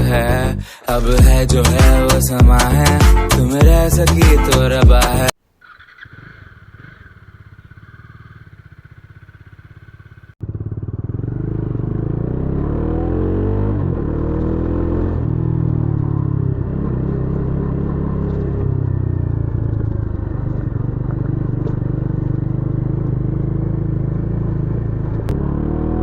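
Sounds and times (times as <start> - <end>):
motorcycle engine accelerating: 1.1 - 26.0.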